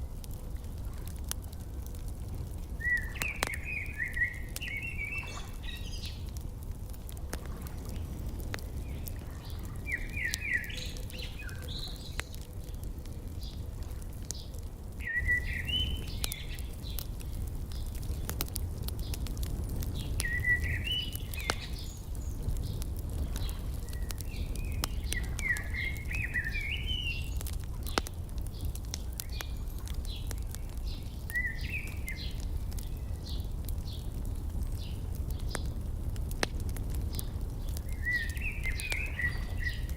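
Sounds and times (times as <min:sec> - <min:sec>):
wood fire snapping and popping: 0:00.0 - 0:39.9.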